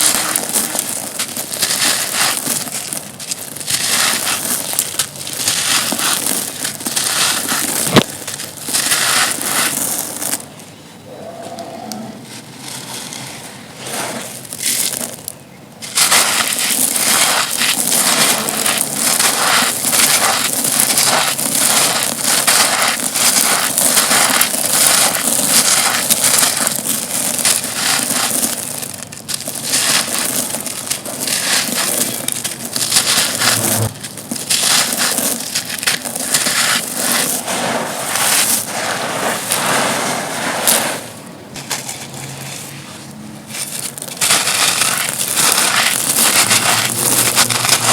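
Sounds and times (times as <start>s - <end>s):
stone-like chunks crunching: 0.0s - 42.8s, 43.5s - 47.9s.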